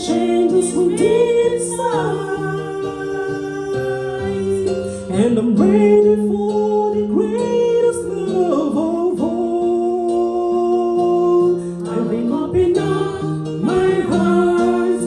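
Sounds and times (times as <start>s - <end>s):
instrumental accompaniment: 0.0s - 15.0s.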